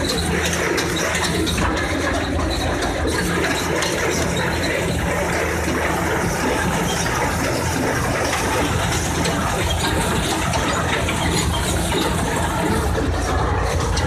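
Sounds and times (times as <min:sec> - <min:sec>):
hay baler working: 0:00.0 - 0:14.0
tractor engine running under load: 0:00.0 - 0:14.0.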